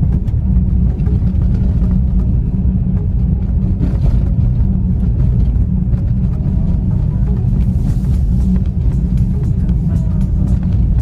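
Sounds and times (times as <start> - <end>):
car engine rumble: 0.0 - 11.0
tyre noise on paved road: 0.0 - 11.0.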